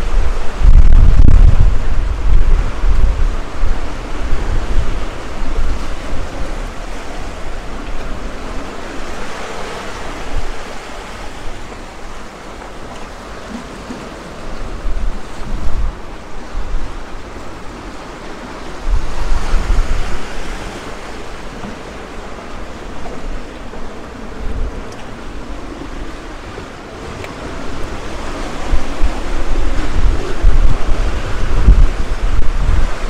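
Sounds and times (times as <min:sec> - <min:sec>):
sea waves breaking on beach: 0:00.0 - 0:33.0
wind buffeting microphone: 0:00.0 - 0:33.0.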